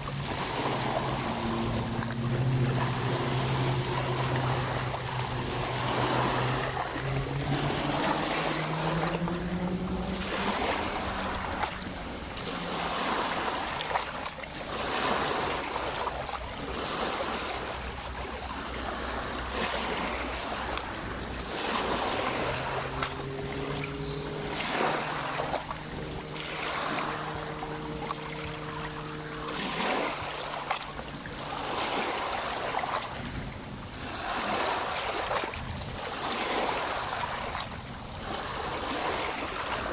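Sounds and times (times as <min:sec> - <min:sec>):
motor humming: 0:00.0 - 0:39.9
small waves lapping on shore: 0:00.0 - 0:39.9.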